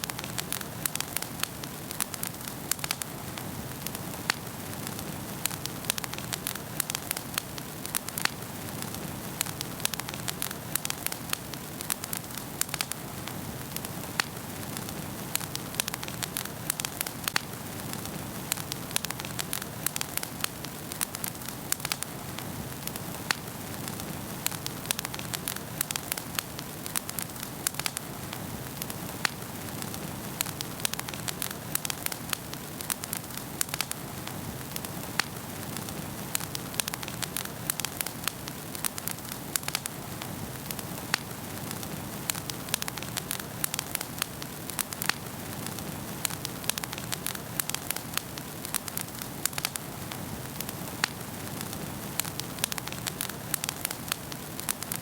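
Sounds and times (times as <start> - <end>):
burning logs crackling and popping: 0.0 - 55.0
flames rushing: 0.1 - 55.0.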